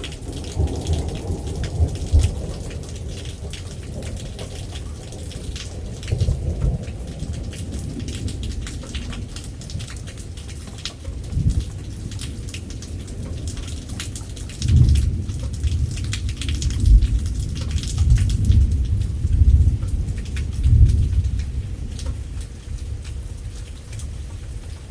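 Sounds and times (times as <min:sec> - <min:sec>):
rain falling: 0:00.0 - 0:24.9
rolling thunder: 0:00.0 - 0:24.9.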